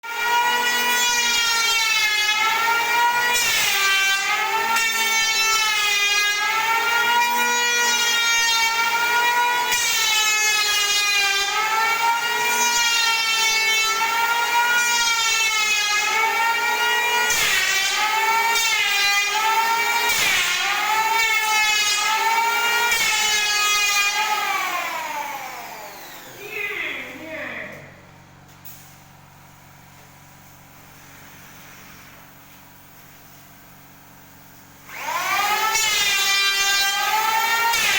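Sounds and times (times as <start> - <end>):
power tool motor running: 0.1 - 27.2, 34.3 - 37.9.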